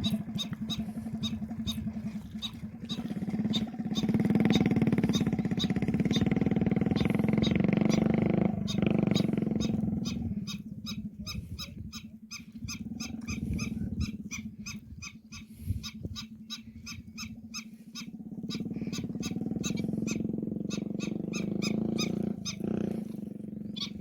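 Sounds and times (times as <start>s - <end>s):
bird chirping rapidly: 0.0s - 24.0s
steady low hum: 0.0s - 24.0s.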